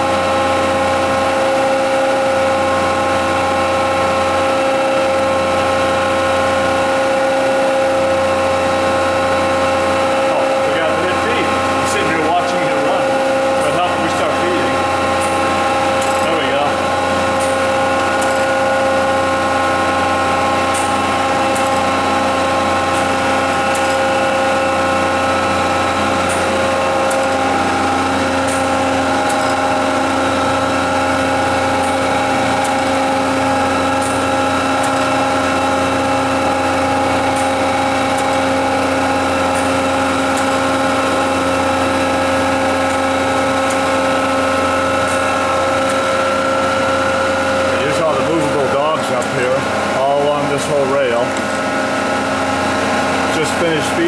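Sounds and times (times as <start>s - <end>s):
constant whining tones: 0.0s - 54.0s
grinder machine hum: 0.0s - 54.0s.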